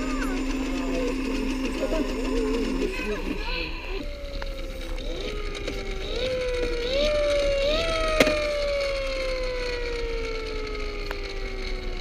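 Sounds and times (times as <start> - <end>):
electronic toy tone: 0.0 - 12.0.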